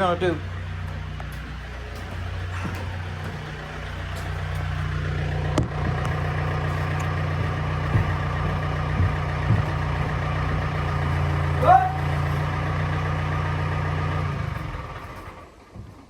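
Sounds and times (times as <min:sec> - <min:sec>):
short knocks and clunks: 0:00.0 - 0:16.0
tractor diesel engine idling: 0:00.0 - 0:16.0.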